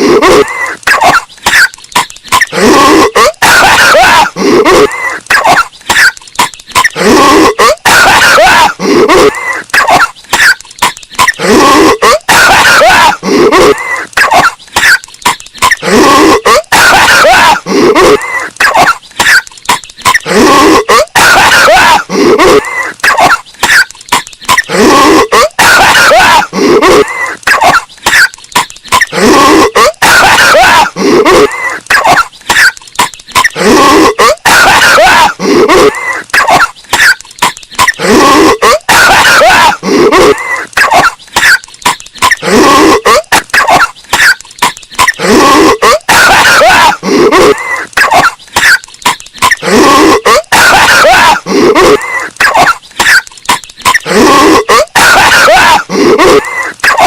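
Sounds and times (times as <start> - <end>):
distorted cartoon cough: 0.0 - 57.0.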